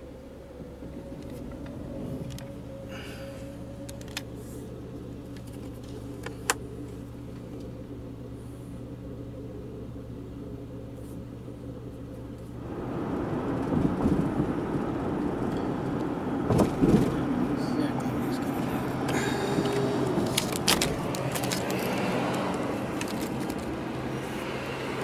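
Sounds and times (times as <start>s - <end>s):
car driving rumble: 0.0s - 25.0s
car engine idling hum: 0.0s - 25.0s
road and tyre noise: 0.0s - 25.0s.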